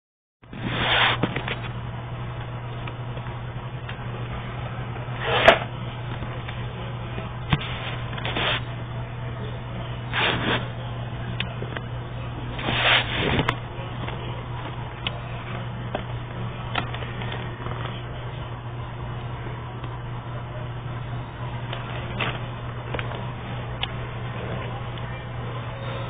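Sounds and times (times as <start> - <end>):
steady low hum: 0.4 - 26.0.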